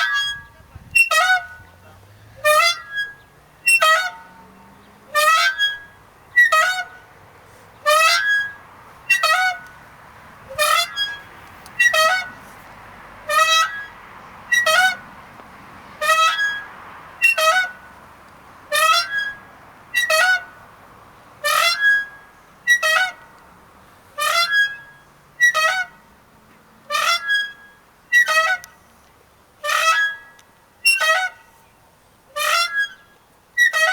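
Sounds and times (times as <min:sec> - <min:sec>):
swing squeaking: 0:00.0 - 0:15.2, 0:15.9 - 0:23.4, 0:24.1 - 0:26.2, 0:26.8 - 0:29.0, 0:29.6 - 0:33.9.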